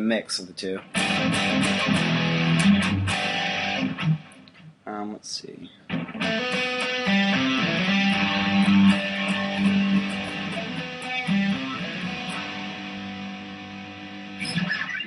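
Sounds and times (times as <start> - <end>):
electric guitar chord ringing: 0.9 - 4.2, 6.0 - 15.0
electric guitar picked notes: 0.9 - 4.4, 5.9 - 15.0.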